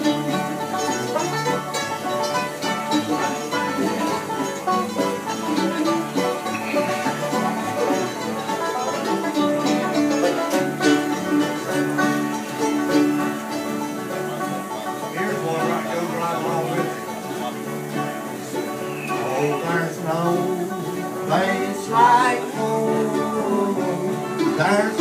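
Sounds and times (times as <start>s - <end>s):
bluegrass jam: 0.0s - 25.0s.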